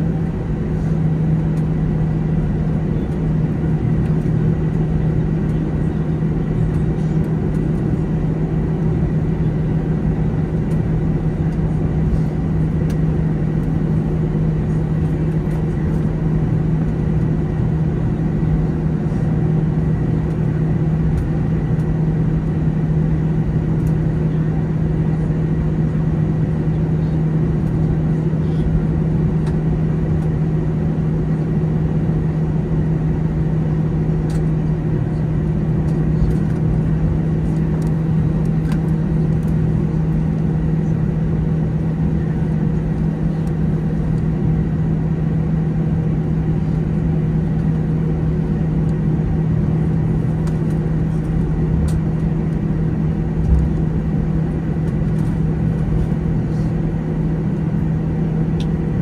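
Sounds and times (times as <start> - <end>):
aircraft engines idling: 0.0 - 59.0
cabin air running: 0.0 - 59.0
constant low hum: 0.0 - 59.0.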